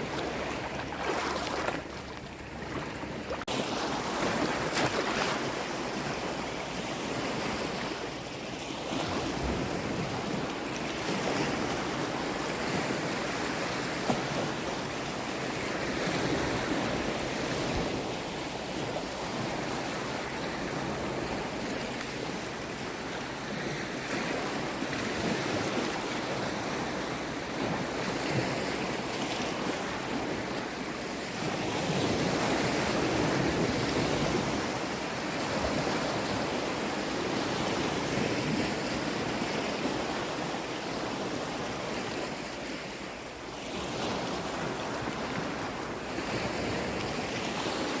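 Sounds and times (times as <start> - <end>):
waves washing in and out: 0.0 - 48.0.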